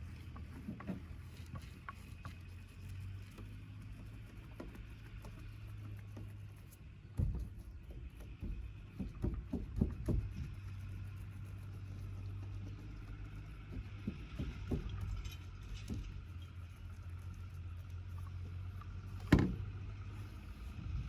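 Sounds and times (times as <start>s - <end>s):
dull knocks and thumps: 0.0s - 2.5s, 3.2s - 21.0s.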